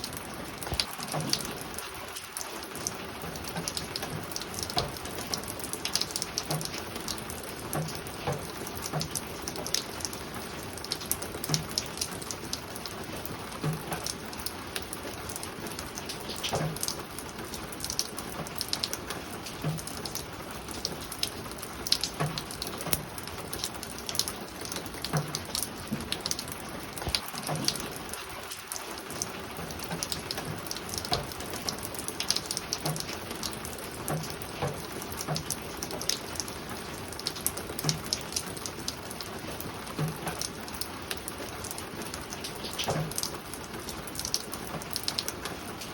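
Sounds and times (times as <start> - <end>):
rain on a roof: 0.0 - 45.9.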